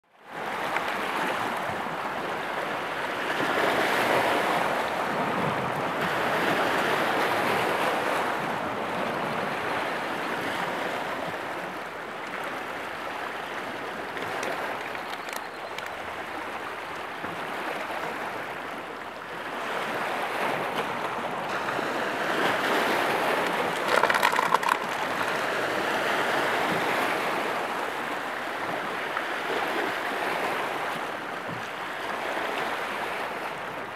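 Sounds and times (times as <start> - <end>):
waves splashing over rocky shore: 0.4 - 33.9.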